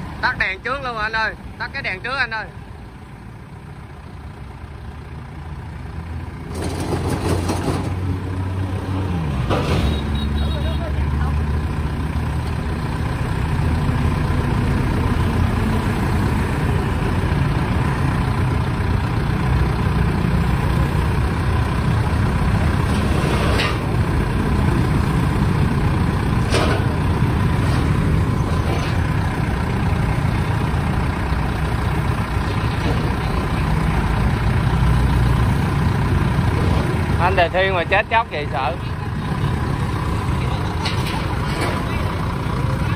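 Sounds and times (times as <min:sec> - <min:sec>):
vehicle engine running loudly: 0:02.6 - 0:42.9.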